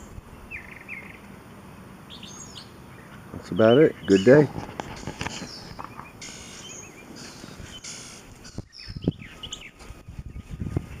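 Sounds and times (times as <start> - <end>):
outdoor background noise: 0.0 - 11.0
songbirds chirping: 0.0 - 11.0.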